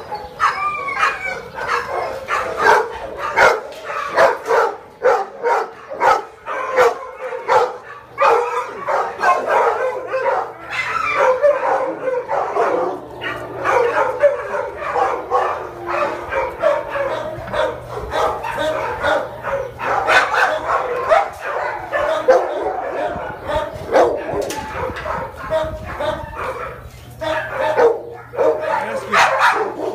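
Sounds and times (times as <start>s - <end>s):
dogs barking and yipping: 0.0s - 29.9s.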